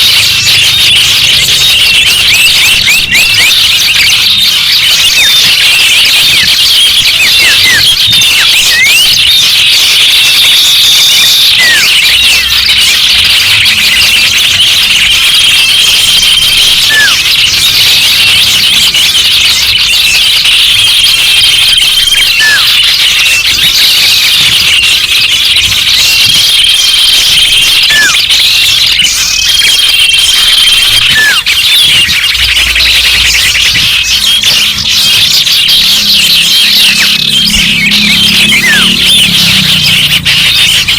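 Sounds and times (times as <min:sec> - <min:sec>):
held high bird whistle: 0:00.0 - 0:18.5, 0:20.4 - 0:24.5, 0:25.3 - 0:40.9
songbirds chirping and trilling: 0:00.0 - 0:40.9.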